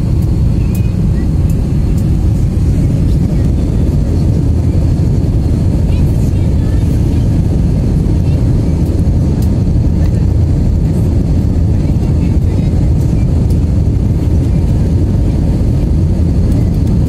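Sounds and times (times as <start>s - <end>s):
aircraft cabin low rumble: 0.0s - 17.0s.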